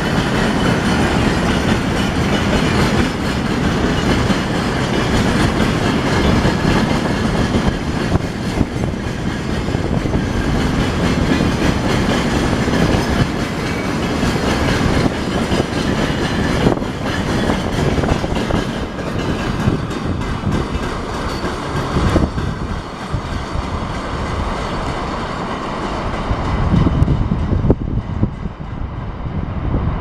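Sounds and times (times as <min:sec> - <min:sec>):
freight train wheels clattering: 0:00.0 - 0:29.0.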